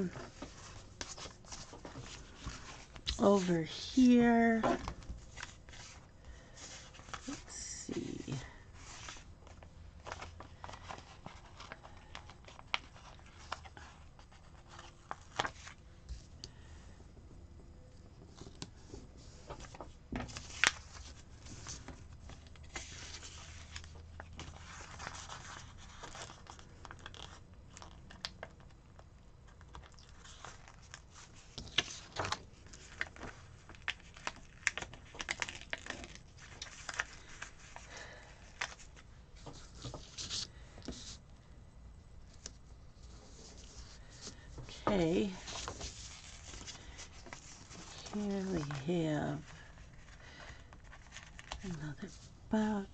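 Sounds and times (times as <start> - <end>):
paper rustling: 0.0 - 16.7, 18.2 - 28.7, 29.5 - 41.2, 42.3 - 52.4.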